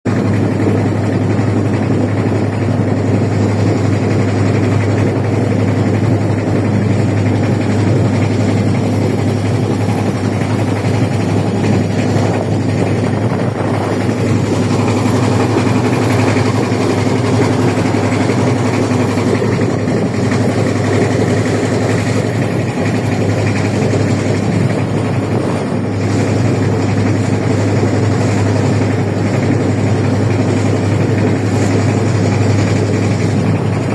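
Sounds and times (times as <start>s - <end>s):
motorboat engine droning: 0.1s - 33.9s.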